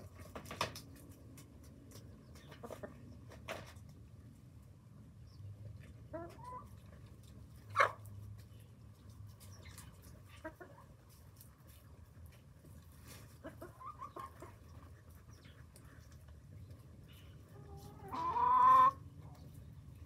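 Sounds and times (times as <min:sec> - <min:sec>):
hens clucking: 0:00.0 - 0:03.9, 0:05.7 - 0:20.0.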